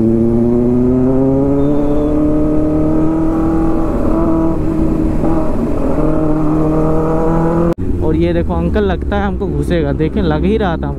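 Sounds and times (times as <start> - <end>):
motorcycle engine revving: 0.0 - 10.9
wind and road rumble: 0.0 - 10.9.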